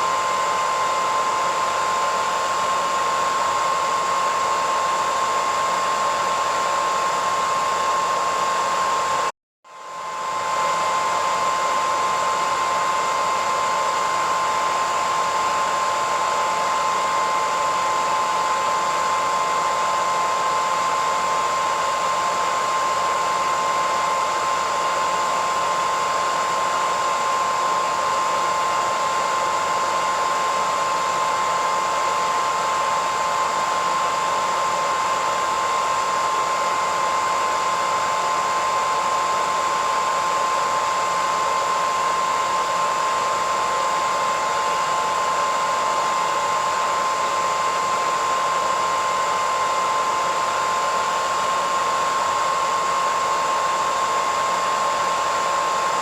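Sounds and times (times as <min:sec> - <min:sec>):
hairdryer running: 0:00.0 - 0:56.0.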